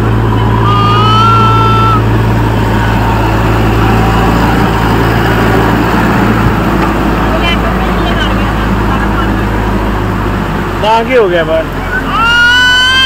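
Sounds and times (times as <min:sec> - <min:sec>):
suv engine droning: 0:00.0 - 0:13.0.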